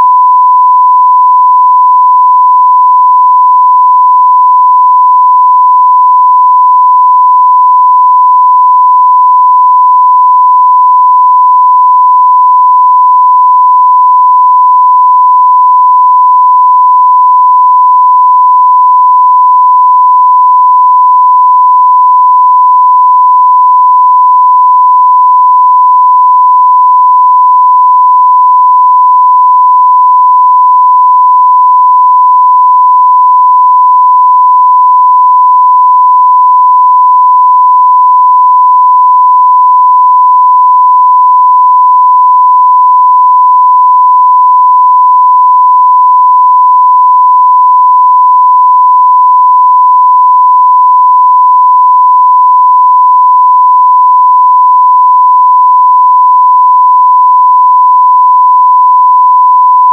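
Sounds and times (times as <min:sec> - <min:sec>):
sine-wave test tone: 0:00.0 - 0:59.9.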